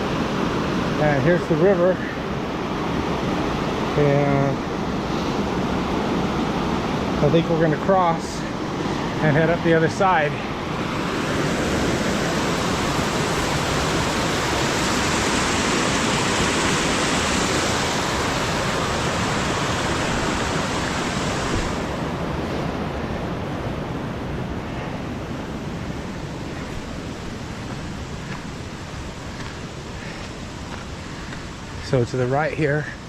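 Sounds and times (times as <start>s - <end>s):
rushing creek water: 0.0s - 33.0s.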